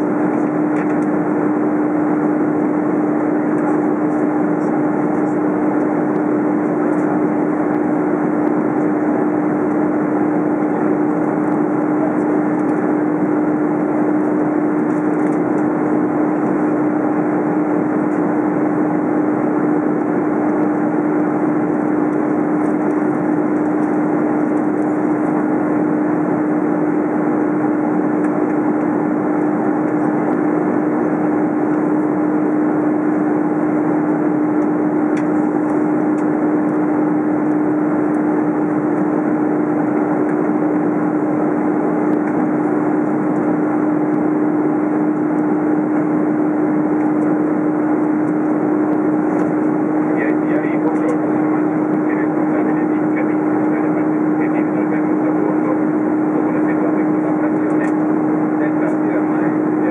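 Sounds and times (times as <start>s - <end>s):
constant hum: 0.0s - 59.9s
jet engine drone: 0.0s - 59.9s.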